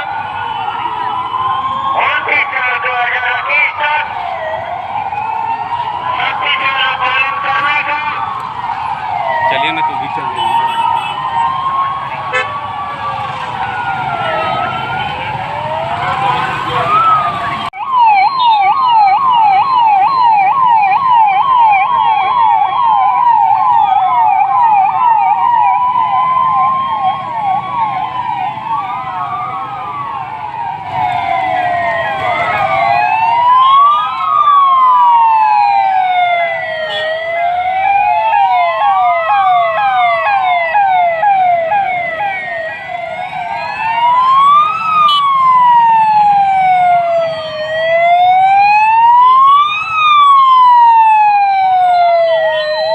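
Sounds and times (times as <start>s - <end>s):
police sirens wailing: 0.0s - 52.9s.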